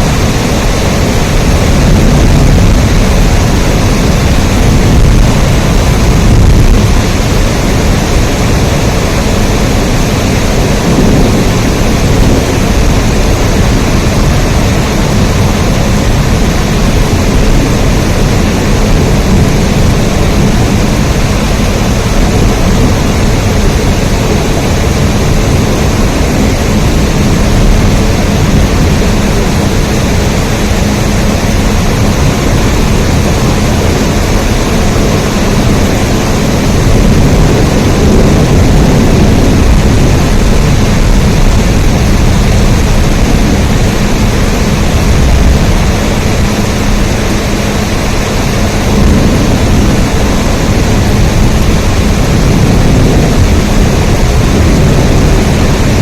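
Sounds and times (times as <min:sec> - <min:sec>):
deep rumble: 0:00.0 - 0:56.0
heavy rain: 0:00.0 - 0:56.0.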